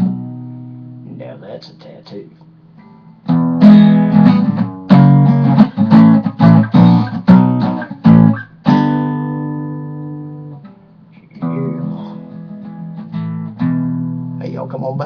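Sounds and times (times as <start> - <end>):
acoustic guitar strumming: 0.0 - 1.1, 2.8 - 15.0.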